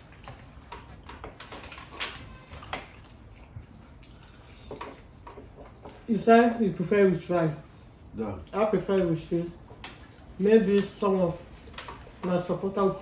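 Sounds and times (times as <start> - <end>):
wet chewing smacks: 0.0 - 6.1, 7.5 - 12.8.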